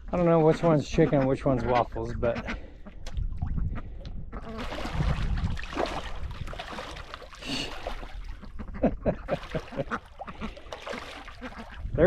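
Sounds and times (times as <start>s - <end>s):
water splashing and sloshing: 0.1s - 12.0s.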